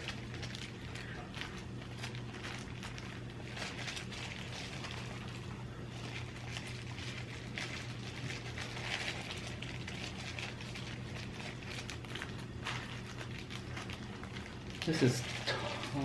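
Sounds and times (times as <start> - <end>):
sticky crackles of handling food: 0.0 - 16.0.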